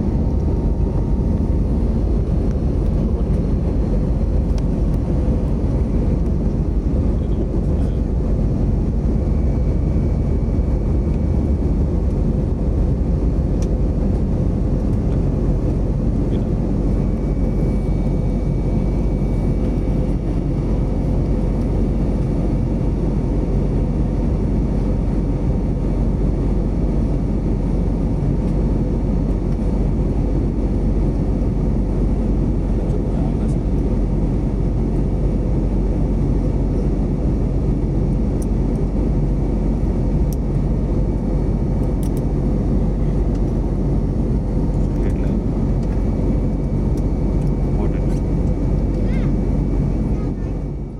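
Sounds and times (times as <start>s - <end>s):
jet engine cabin drone: 0.0s - 50.9s.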